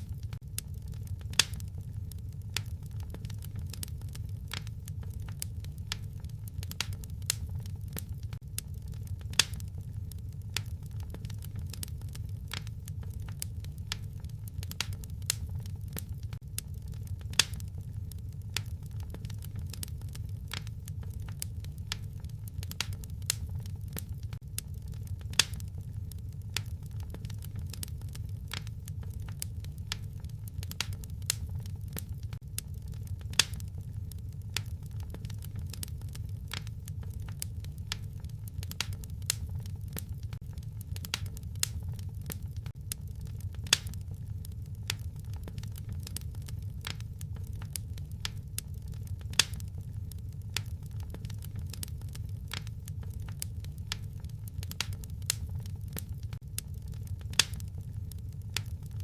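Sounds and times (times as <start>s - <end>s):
loud fire pops: 0.0s - 59.0s
low steady rumble: 0.0s - 59.0s
wood fire crackling: 0.0s - 59.0s.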